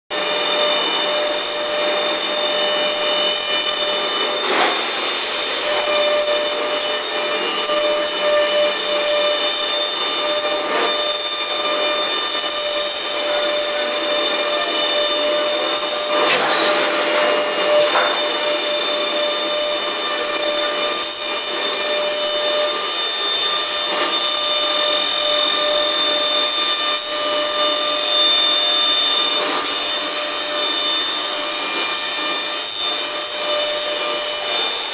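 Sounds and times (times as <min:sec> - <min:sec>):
cutters hissing through boards: 0:00.1 - 0:34.9
louder cutting noise: 0:00.1 - 0:34.9
spindles whining: 0:00.1 - 0:34.9.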